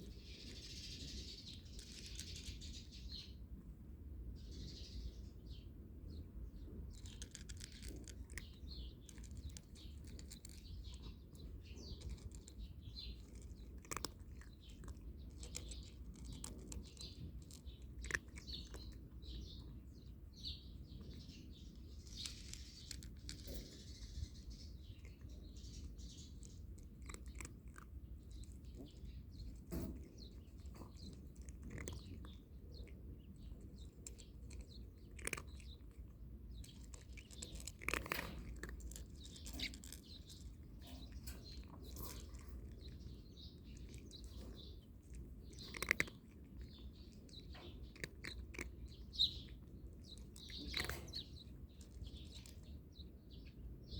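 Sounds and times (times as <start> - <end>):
cat crunching dry kibble: 0.0 - 3.3, 6.6 - 53.8
small birds chirping: 0.0 - 53.9.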